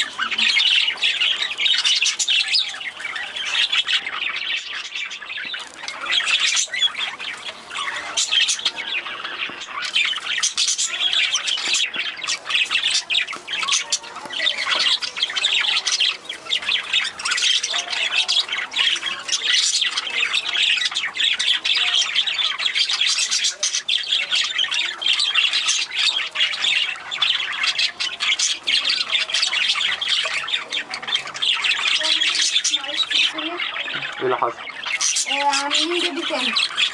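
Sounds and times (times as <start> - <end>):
budgerigars chattering and squawking: 0.0 - 36.9.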